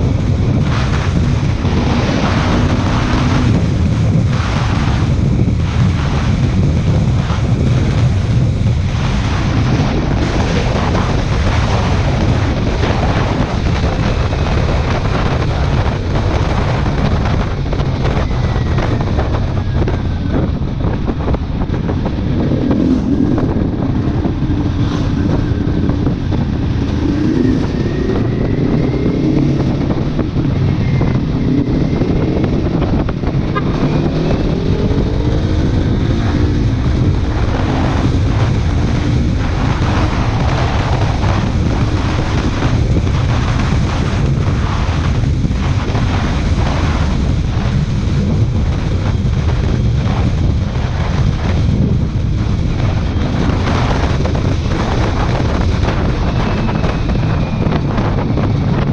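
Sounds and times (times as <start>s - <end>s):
motorcycle engine revving: 0.0s - 58.9s
wind noise on microphone: 0.0s - 58.9s.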